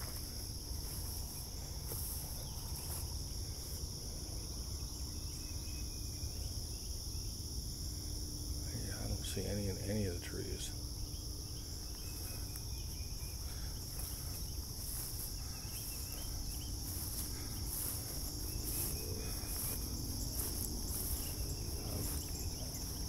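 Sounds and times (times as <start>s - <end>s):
crickets trilling: 0.0s - 23.0s
insect pulsing buzz: 0.0s - 23.0s.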